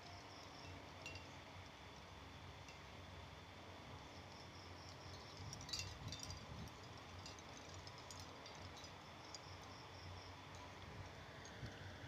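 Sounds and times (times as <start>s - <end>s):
faint light clicks and clinks: 0.0s - 2.9s, 4.3s - 9.8s, 10.4s - 11.8s.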